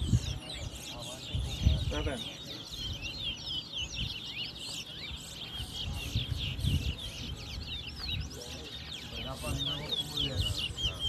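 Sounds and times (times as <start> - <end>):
finches chirping and whistling: 0.0 - 11.0.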